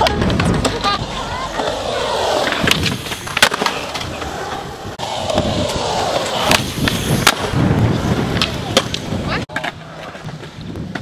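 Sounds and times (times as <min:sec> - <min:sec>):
skateboard clacking on ground: 0:00.0 - 0:07.6, 0:08.2 - 0:11.0
skateboard wheels rolling on concrete: 0:00.0 - 0:11.0.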